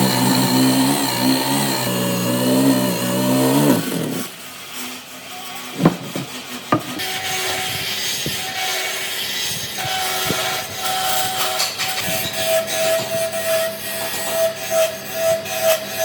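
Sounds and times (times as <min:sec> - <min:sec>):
tool scraping wood: 0:00.0 - 0:04.3, 0:05.8 - 0:15.9.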